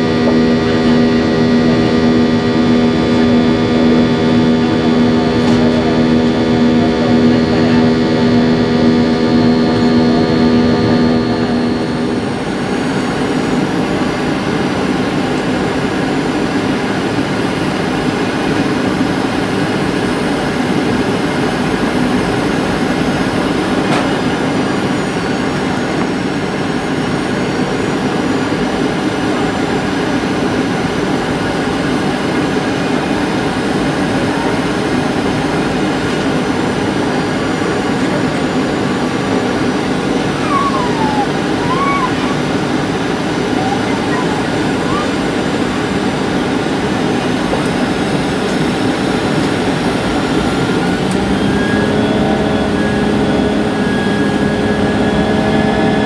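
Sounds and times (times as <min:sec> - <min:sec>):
jet engine hum and whine: 0:00.0 - 0:56.0.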